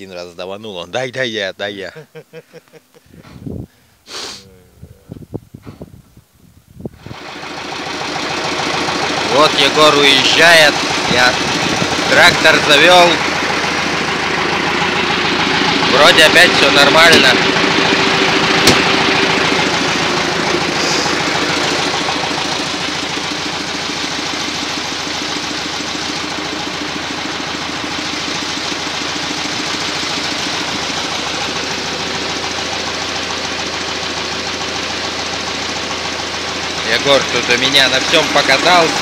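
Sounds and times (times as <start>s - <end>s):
tractor engine idling: 0.0s - 5.2s, 6.8s - 39.0s.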